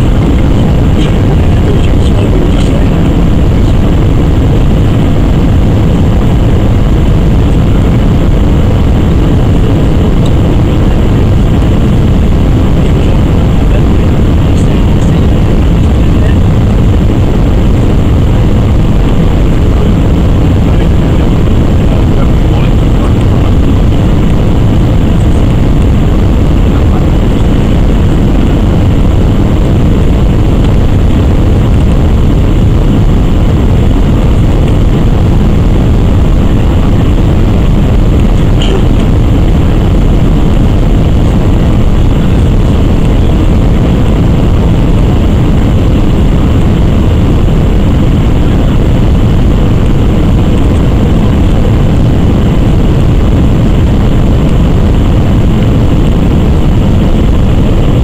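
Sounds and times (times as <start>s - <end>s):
jet engines and airflow rumble: 0.0s - 58.0s.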